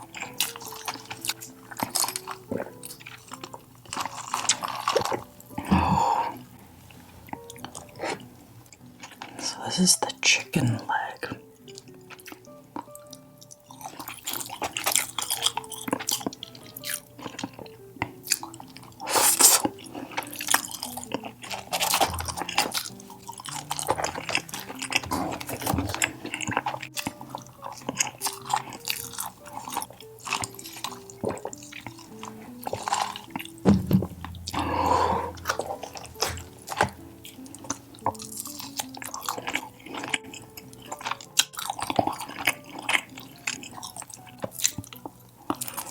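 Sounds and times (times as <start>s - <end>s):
chewing and mouth smacks: 0.0s - 9.4s, 11.2s - 45.9s
soft background music: 0.0s - 45.9s.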